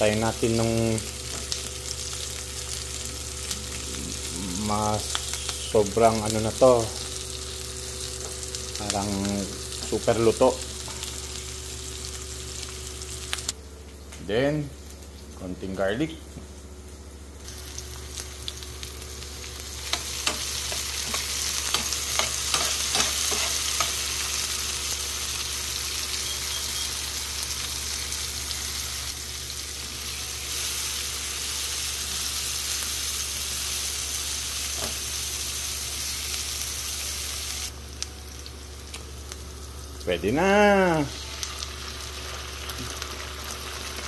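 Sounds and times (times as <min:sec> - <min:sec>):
onion and garlic sizzling: 0:00.0 - 0:44.0.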